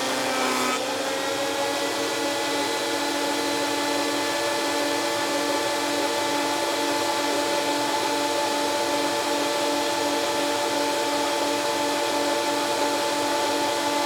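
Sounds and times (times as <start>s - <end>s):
electric wood planer running: 0.0s - 14.0s.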